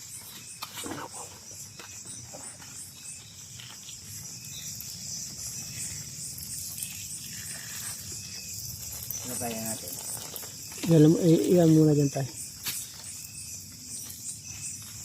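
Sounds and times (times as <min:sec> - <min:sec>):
pulsing insect buzz: 0:00.2 - 0:15.0.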